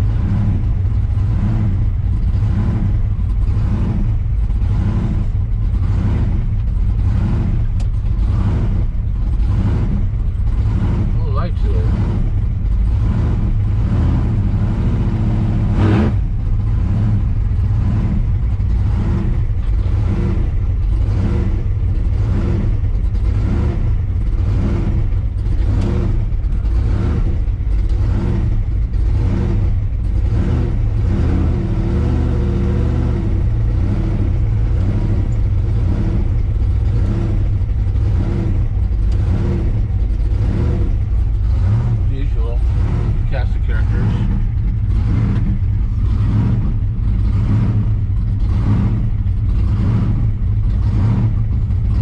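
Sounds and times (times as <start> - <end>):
car engine and road rumble: 0.0 - 52.0.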